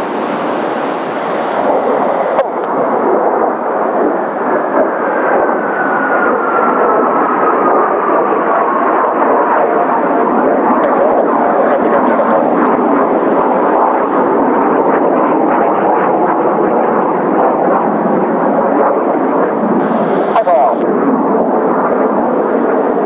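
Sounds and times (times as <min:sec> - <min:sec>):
falling jet whine: 0:00.0 - 0:18.2, 0:19.6 - 0:23.0
jet engines passing overhead: 0:00.0 - 0:23.0.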